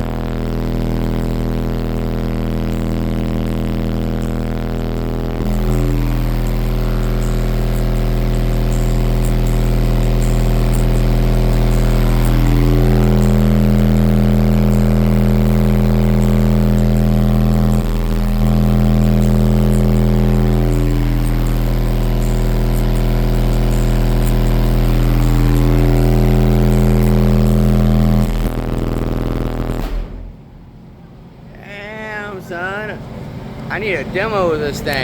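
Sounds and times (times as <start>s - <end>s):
bass-heavy music very loud: 0.0s - 30.4s.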